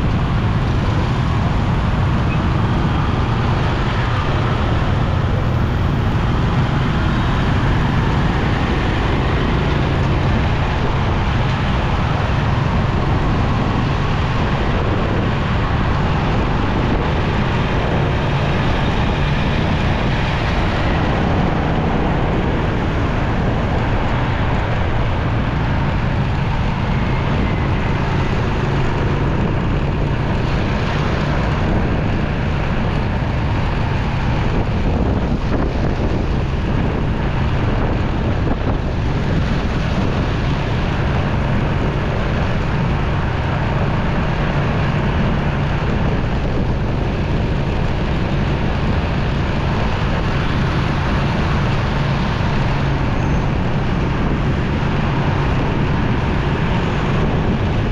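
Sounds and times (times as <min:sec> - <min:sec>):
motorcycle engine: 0:00.0 - 0:57.9
surrounding traffic: 0:00.0 - 0:57.9
wind on microphone: 0:00.0 - 0:57.9.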